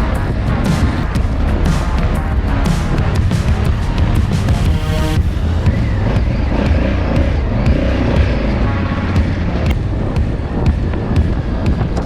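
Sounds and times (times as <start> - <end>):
music with heavy steady beat: 0.0 - 12.0.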